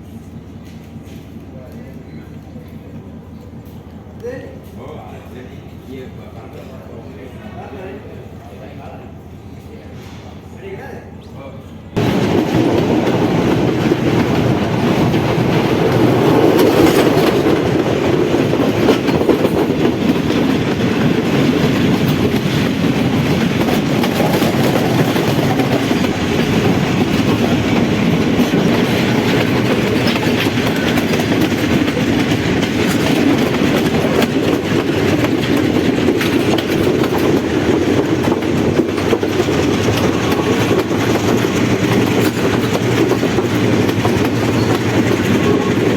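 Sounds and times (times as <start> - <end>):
passenger train rumbling: 0.0 - 45.9.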